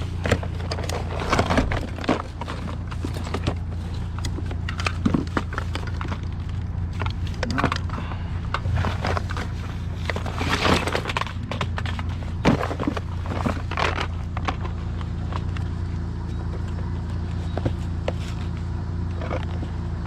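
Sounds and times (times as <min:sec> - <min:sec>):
junk knocking and clattering: 0:00.0 - 0:18.5
low hum: 0:00.0 - 0:20.0.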